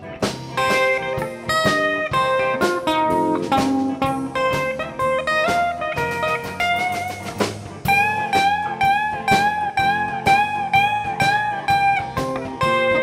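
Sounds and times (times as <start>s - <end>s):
bass and drums: 0.0s - 13.0s
electric guitar solo: 0.0s - 13.0s.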